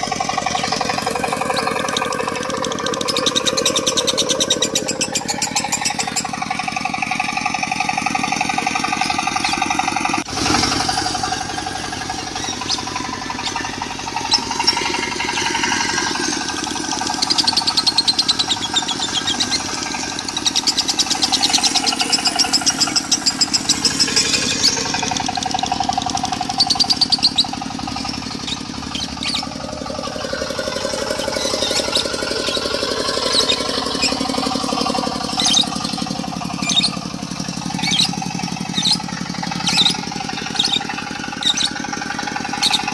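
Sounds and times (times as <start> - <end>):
bird chattering in rapid trills: 0.0 - 42.9
diesel engine knocking: 0.0 - 42.9.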